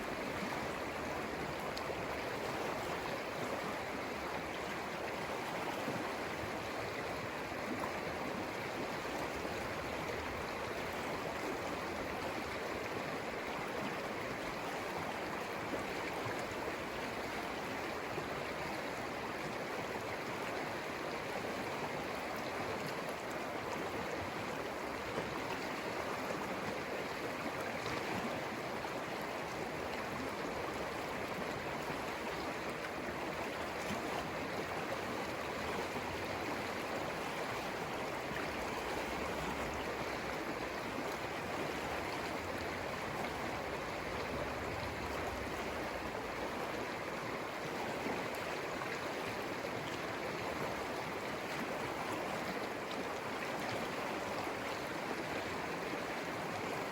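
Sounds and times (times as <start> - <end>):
river flowing: 0.0 - 56.9.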